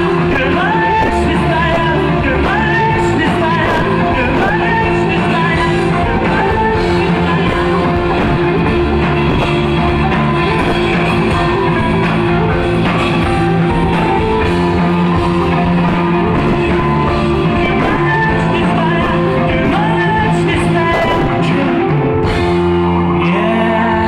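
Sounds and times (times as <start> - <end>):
drum kit: 0.0 - 23.2
electric guitar: 0.0 - 24.0
person singing: 0.0 - 24.0.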